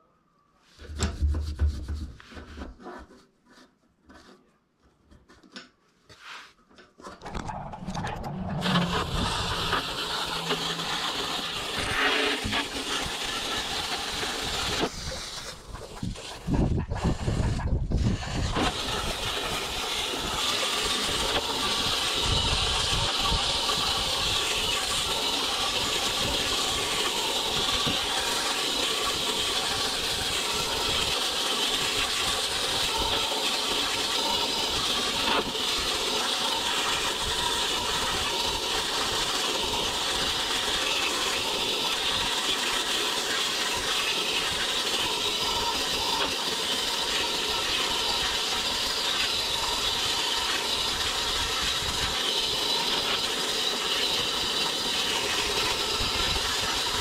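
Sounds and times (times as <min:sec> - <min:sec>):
hose water spraying into metal housing: 0:07.2 - 0:57.0.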